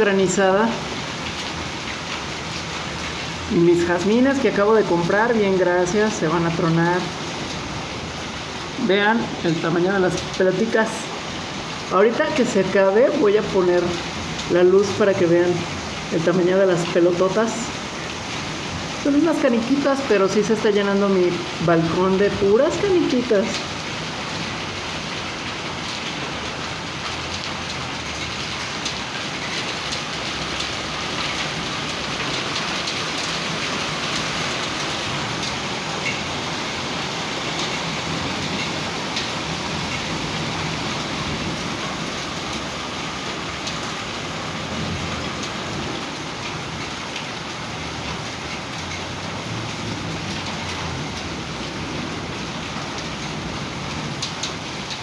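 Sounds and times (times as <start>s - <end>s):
hail and rain pelting down: 0.0s - 55.0s.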